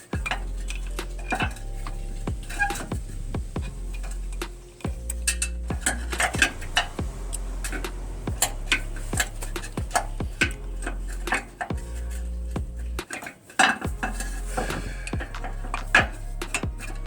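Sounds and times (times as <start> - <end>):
steady low hum: 0.0 - 13.0, 13.9 - 17.0.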